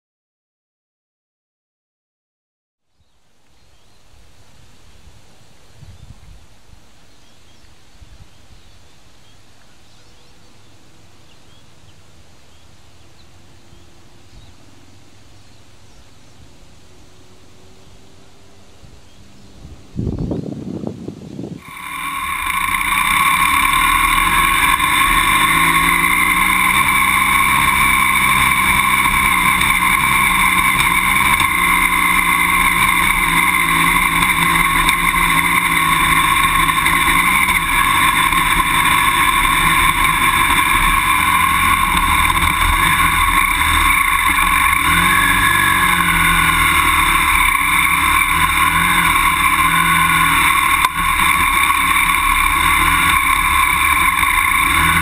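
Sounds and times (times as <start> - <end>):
motorcycle engine revving: 9.8 - 20.4, 21.6 - 55.0.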